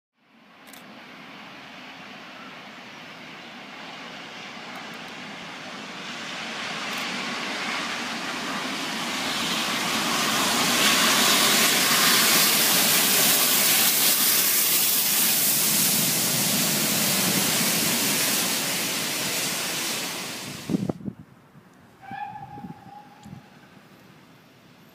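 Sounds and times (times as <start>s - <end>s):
steam locomotives rushing and hissing: 0.3s - 21.1s, 22.0s - 24.9s.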